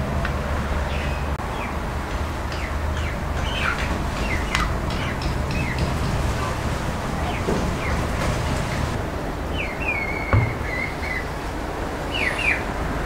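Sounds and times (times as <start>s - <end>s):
small birds chirping: 0.7s - 12.7s.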